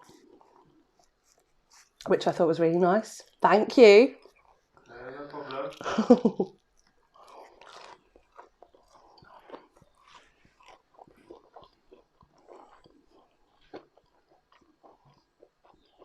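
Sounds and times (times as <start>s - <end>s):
person chewing crunchy food: 0.0s - 2.0s, 4.1s - 16.0s.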